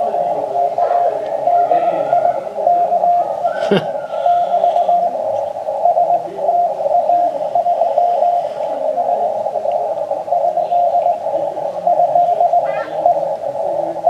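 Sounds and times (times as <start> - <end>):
hissing radio noise: 0.0 - 14.0
morse code tone: 0.0 - 14.0.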